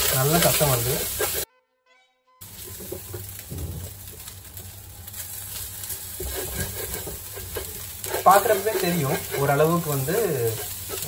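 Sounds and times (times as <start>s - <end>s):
rice sizzling in a wok: 0.0s - 1.5s, 2.4s - 11.0s
wooden spatula scraping a wok: 0.0s - 1.5s, 2.4s - 4.3s, 5.3s - 11.0s.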